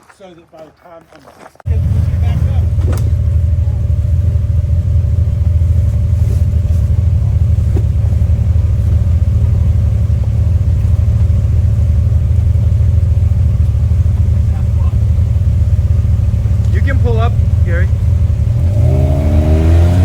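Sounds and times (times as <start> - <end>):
engine low rumble: 1.7 - 20.0.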